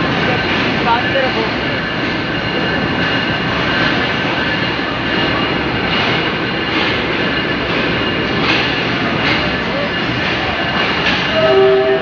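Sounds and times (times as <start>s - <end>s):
train engine roaring: 0.0s - 12.0s.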